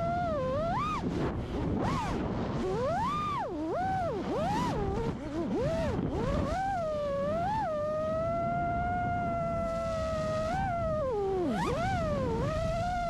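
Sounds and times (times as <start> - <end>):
drone motors and propellers whining: 0.0 - 13.0
prop wash and wind rushing: 0.0 - 13.0.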